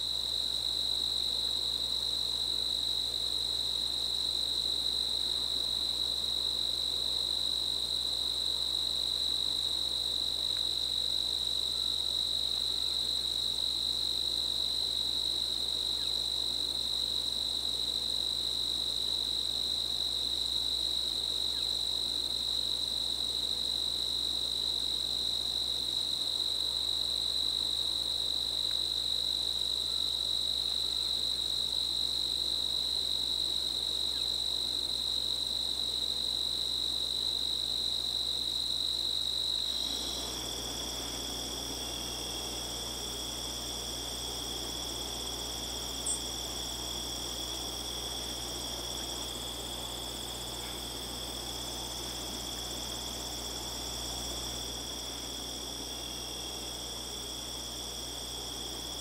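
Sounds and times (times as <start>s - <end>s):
crickets trilling: 0.0s - 59.0s
faint field ambience hiss: 0.0s - 59.0s.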